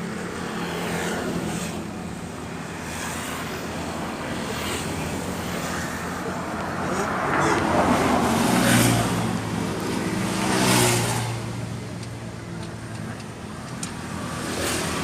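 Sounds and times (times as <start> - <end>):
engine humming: 1.4 - 15.0.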